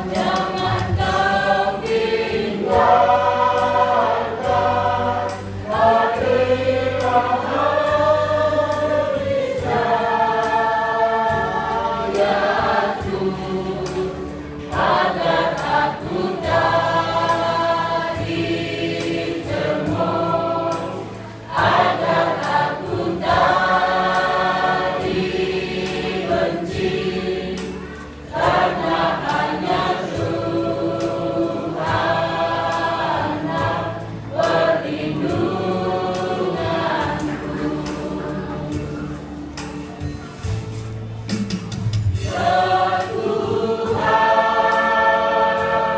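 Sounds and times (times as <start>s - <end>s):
choir singing: 0.0s - 39.8s, 42.2s - 45.9s.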